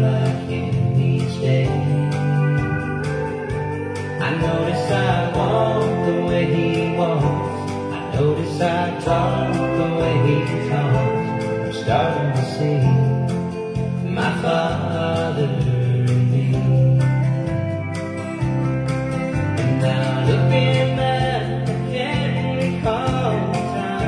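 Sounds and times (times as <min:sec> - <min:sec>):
country music with guitars and bass: 0:00.0 - 0:24.0.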